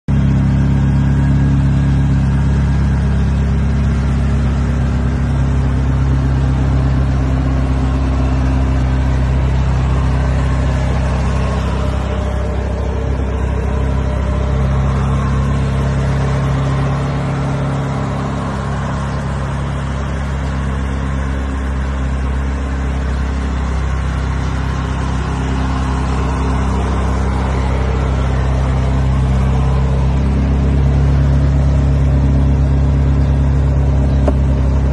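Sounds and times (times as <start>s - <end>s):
car engine idling: 0.1s - 34.9s.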